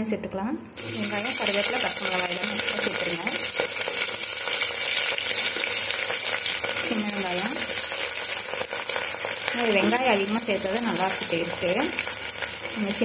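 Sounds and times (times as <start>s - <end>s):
onions sizzling in oil: 0.8s - 13.0s.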